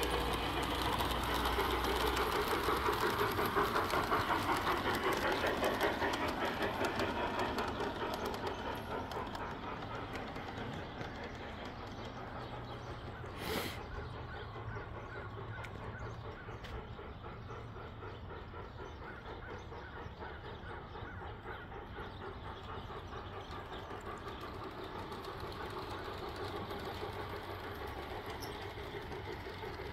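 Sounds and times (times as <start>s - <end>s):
steam locomotive running sounds: 0.0s - 29.9s.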